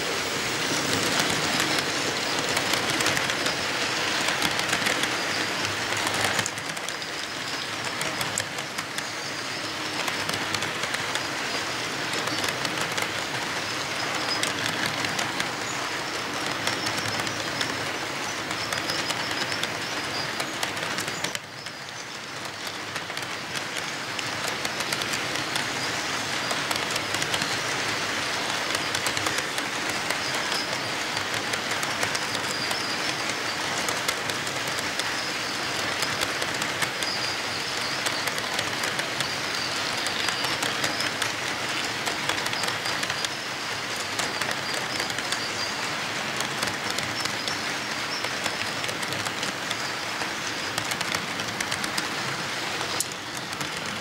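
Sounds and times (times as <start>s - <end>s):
model train wheels rattling: 0.0s - 54.0s.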